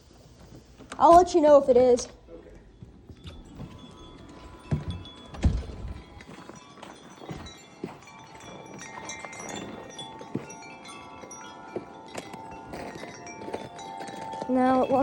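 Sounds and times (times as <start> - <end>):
wind chime ringing: 2.4 - 15.0.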